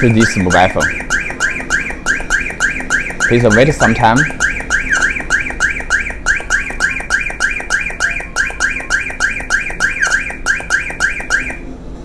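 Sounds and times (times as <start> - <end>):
car alarm chirps: 0.0 - 11.7.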